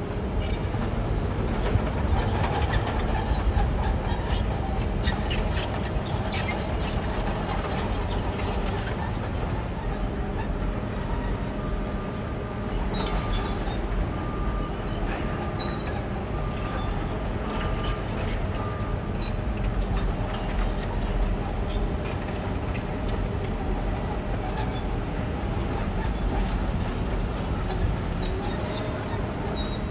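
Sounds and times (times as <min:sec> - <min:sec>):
diesel machinery rumble: 0:00.0 - 0:29.9.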